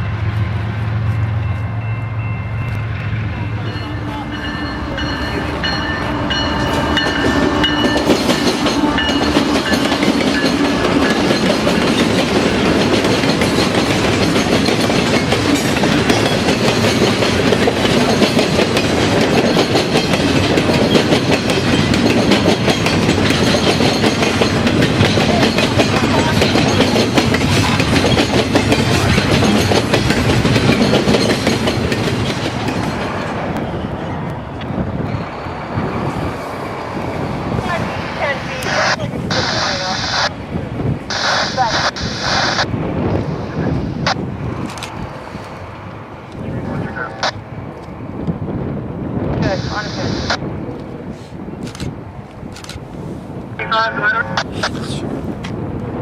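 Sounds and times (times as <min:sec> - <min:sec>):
train cars rattling: 0:00.0 - 0:56.0
train engine tones: 0:00.0 - 0:56.0
train wheels on rails: 0:00.0 - 0:56.0.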